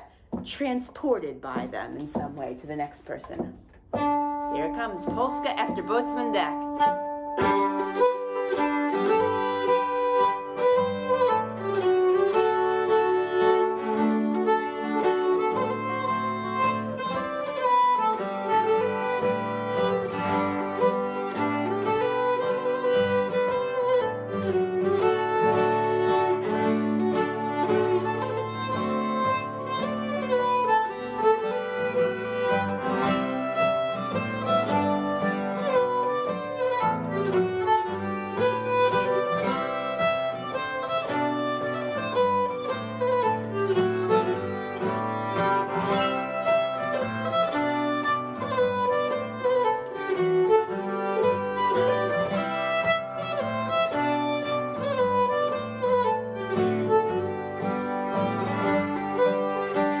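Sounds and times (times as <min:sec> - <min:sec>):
acoustic guitar chords: 0:00.0 - 1:00.0
bowed string melody: 0:00.0 - 1:00.0.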